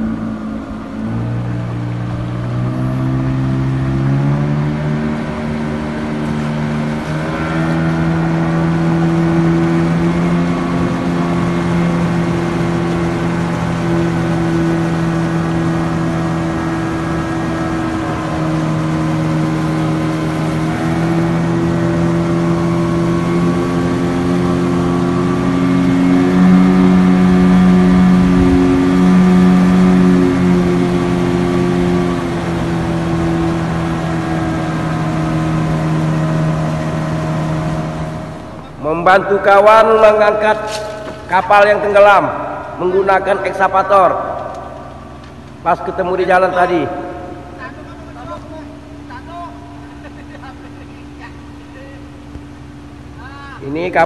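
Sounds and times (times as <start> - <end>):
engine running at high speed: 0.0 - 54.0.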